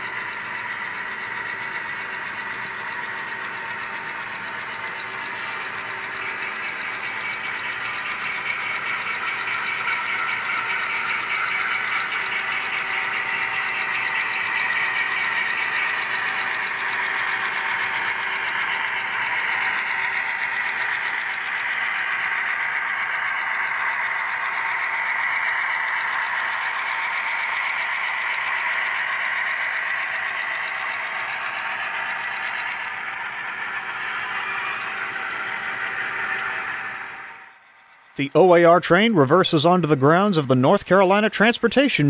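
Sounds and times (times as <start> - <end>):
model train rolling by: 0.0 - 42.0.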